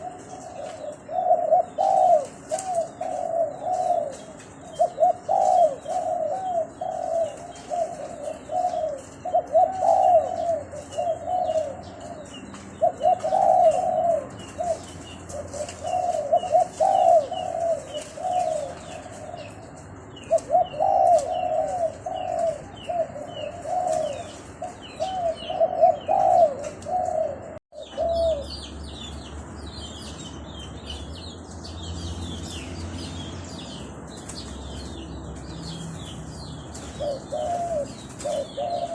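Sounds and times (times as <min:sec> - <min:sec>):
dove cooing: 0:00.0 - 0:28.7, 0:33.5 - 0:38.9
small birds chirping: 0:00.0 - 0:38.9.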